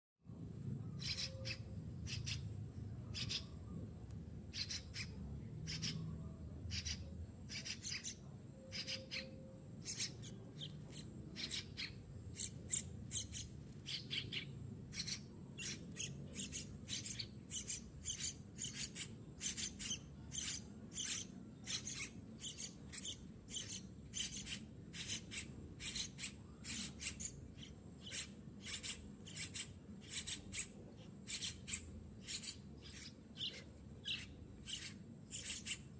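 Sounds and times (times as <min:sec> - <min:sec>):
baby bird begging calls: 0:00.8 - 0:03.7, 0:04.5 - 0:35.9.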